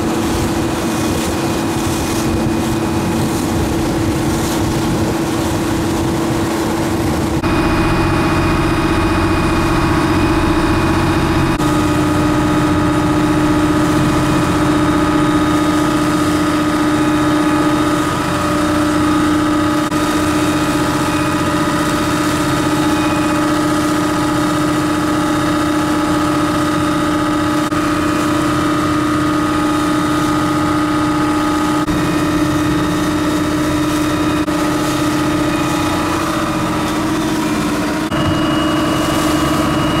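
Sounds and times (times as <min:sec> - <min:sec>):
boat engine humming: 0:00.0 - 0:40.0
hull moving through water: 0:00.0 - 0:40.0.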